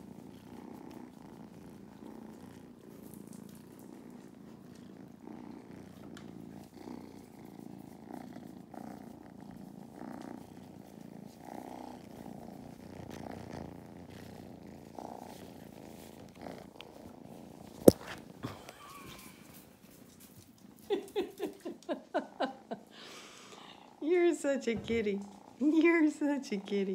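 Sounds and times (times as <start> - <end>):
kittens purring: 0.0 - 26.9.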